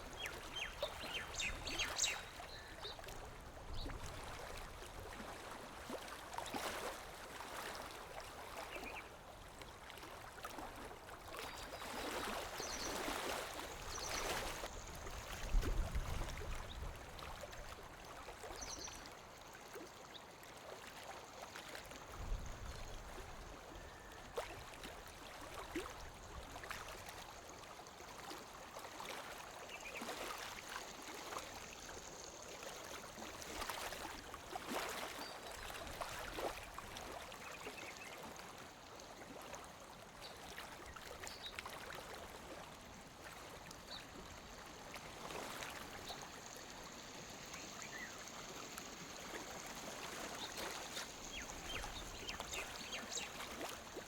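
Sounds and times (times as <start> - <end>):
lake water lapping at shore: 0.0 - 54.0.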